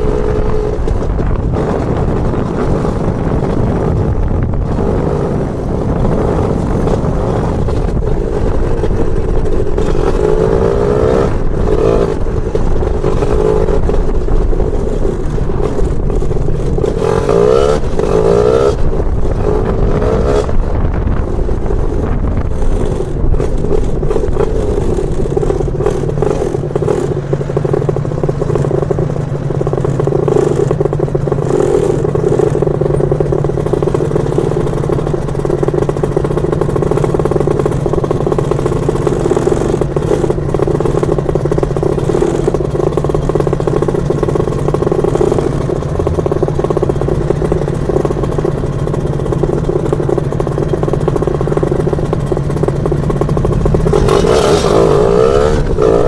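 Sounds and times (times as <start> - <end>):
scooter two-stroke engine revving: 0.0 - 56.0.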